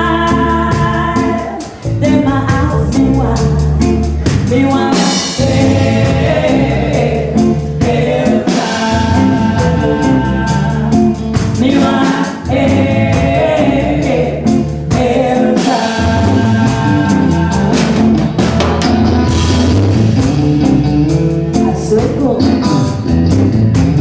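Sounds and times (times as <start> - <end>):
person singing: 0.0 - 19.0, 21.5 - 23.2
live ragga band playing: 0.0 - 24.0
steady drum beat: 0.0 - 24.0.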